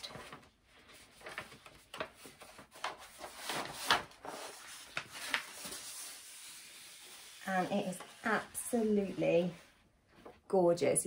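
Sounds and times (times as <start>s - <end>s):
paper and cardboard rustling: 0.0s - 10.4s.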